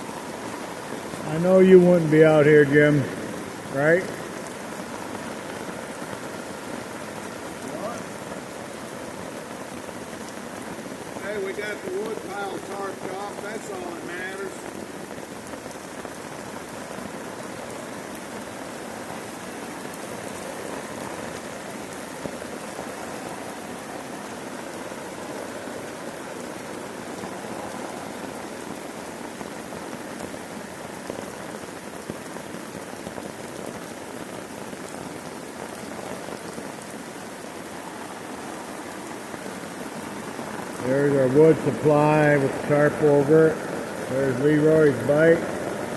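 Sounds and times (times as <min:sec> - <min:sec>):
heavy rain on a tarp: 0:00.0 - 0:45.9.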